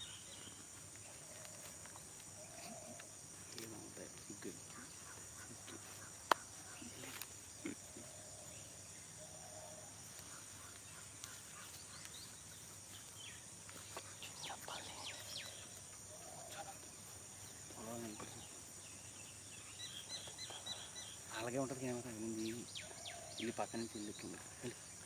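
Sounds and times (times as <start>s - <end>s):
bird chirps: 0.0s - 3.1s, 4.4s - 24.8s
insect drone: 0.0s - 25.0s.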